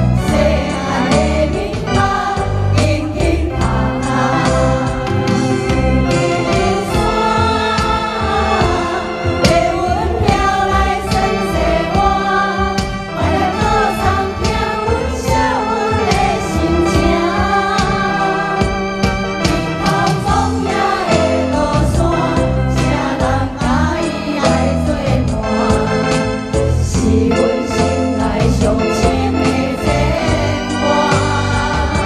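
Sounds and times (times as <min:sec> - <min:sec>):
instrumental music with steady beat: 0:00.0 - 0:32.0.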